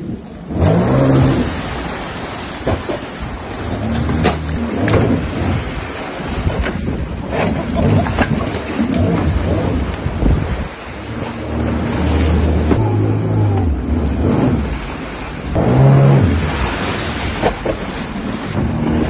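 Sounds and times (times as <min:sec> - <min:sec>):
water spraying and sloshing: 0:00.0 - 0:19.0
watercraft engine revving: 0:00.0 - 0:19.0.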